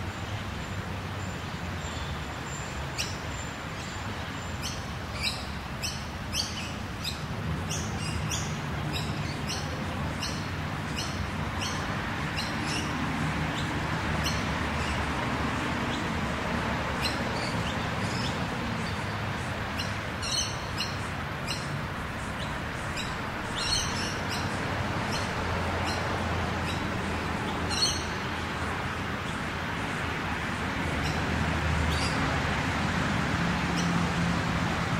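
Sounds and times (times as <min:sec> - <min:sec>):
distant road traffic rumble: 0:00.0 - 0:34.9
small birds chirping: 0:01.2 - 0:15.1, 0:16.9 - 0:32.4.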